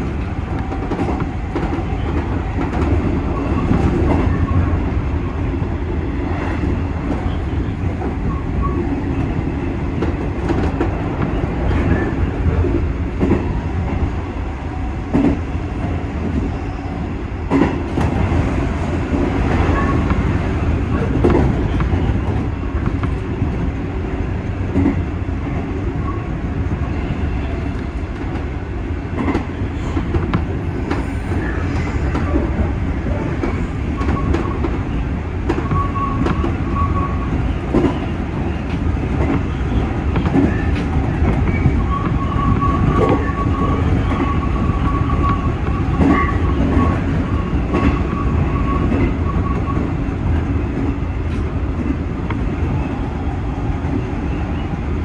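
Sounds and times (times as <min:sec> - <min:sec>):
rail clicks: 0:00.0 - 0:04.8, 0:06.3 - 0:14.2, 0:15.0 - 0:16.5, 0:17.4 - 0:55.0
electric train rumbling: 0:00.0 - 0:55.0.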